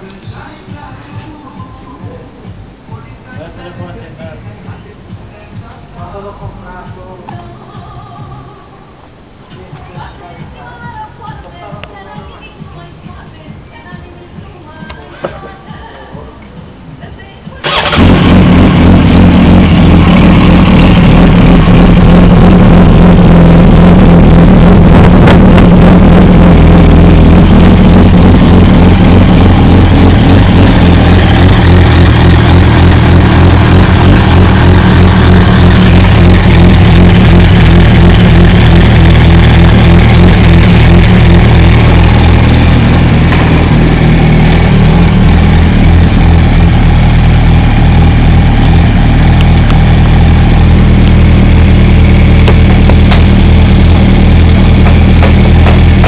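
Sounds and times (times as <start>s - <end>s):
motorcycle engine idling: 0.0s - 8.6s, 9.6s - 56.0s.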